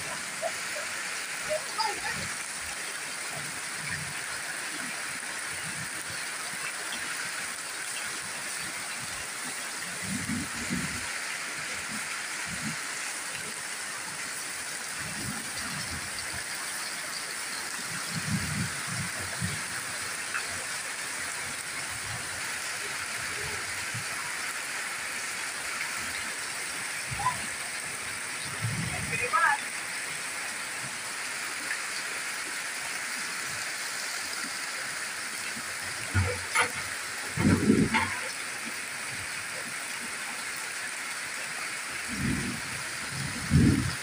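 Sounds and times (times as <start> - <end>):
heavy rain on metal roof: 0.0 - 44.0
water streaming off roof edge: 0.0 - 44.0.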